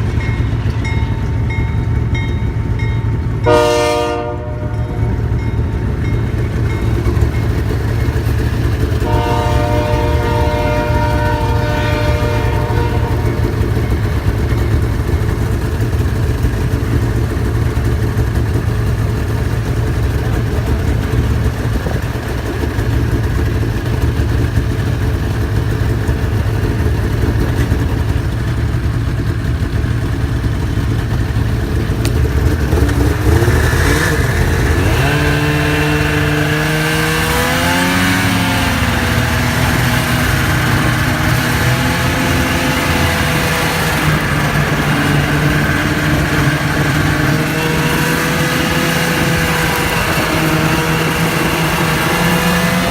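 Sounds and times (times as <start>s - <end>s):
snowmobile engine droning: 0.0s - 52.9s.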